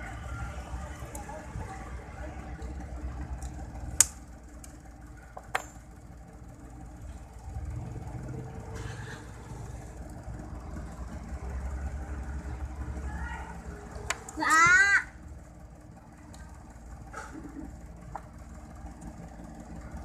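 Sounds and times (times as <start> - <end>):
low rumble of vehicle engines: 0.0 - 20.0.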